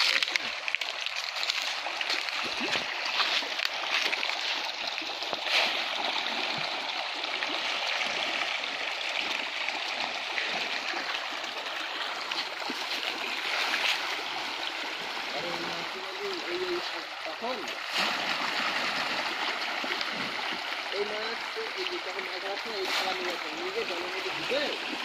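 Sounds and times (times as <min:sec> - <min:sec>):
water falling and splashing: 0:00.0 - 0:25.0.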